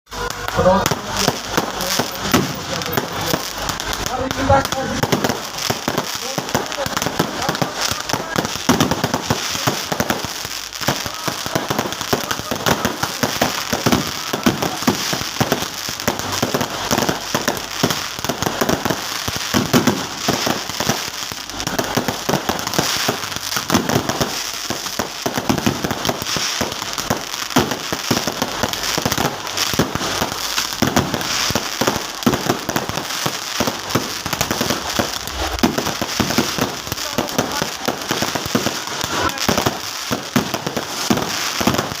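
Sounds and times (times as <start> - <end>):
fireworks crackling: 0.0 - 42.0.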